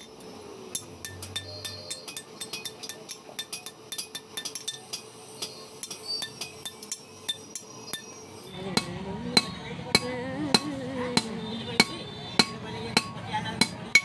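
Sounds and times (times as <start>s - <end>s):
hammer clinking on hot iron: 0.0s - 8.2s, 8.8s - 14.0s.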